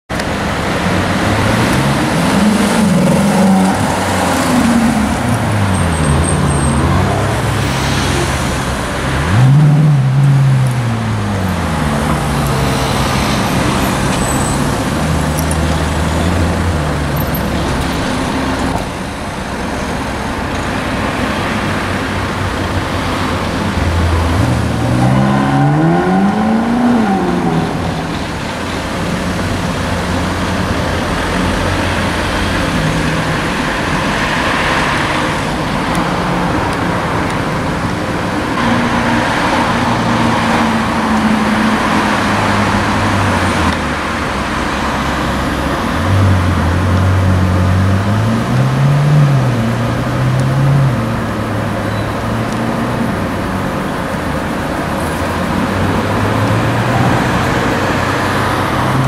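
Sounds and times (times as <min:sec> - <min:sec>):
road traffic noise: 0:00.1 - 0:59.0.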